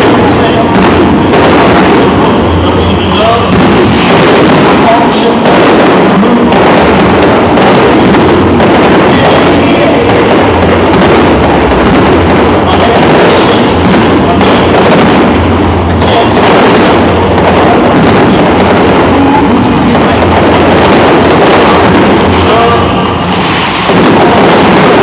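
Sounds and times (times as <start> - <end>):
fireworks bursting: 0.0 - 25.0
fireworks crackle: 0.0 - 25.0.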